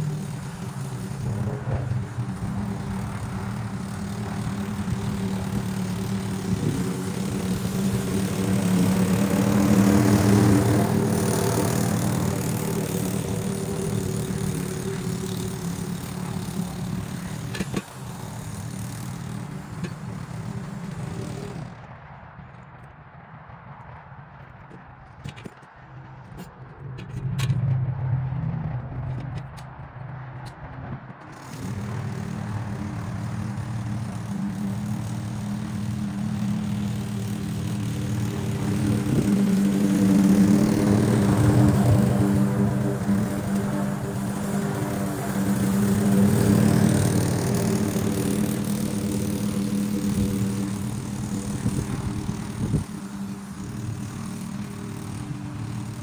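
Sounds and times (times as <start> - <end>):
lawn mower engine running: 0.0 - 22.8, 26.2 - 56.0.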